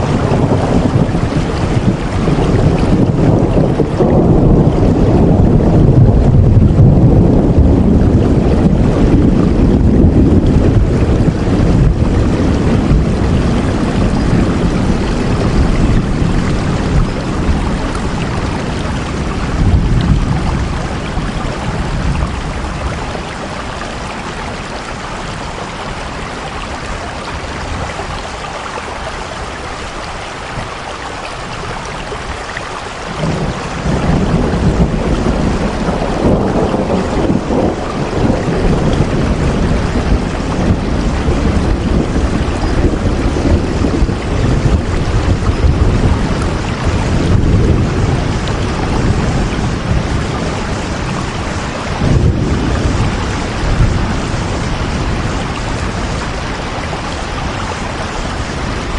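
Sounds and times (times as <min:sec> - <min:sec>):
heavy low rumble: 0:00.0 - 0:24.8, 0:33.2 - 0:58.9
steady rain falling: 0:00.0 - 0:58.9.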